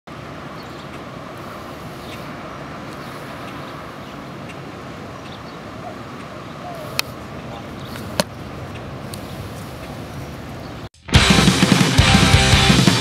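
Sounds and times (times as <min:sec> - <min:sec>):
distant traffic rumble: 0:00.1 - 0:10.9.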